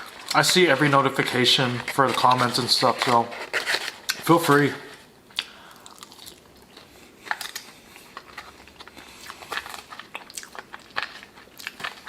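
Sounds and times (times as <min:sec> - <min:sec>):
person chewing crunchy food: 0:00.0 - 0:04.2, 0:05.3 - 0:12.0.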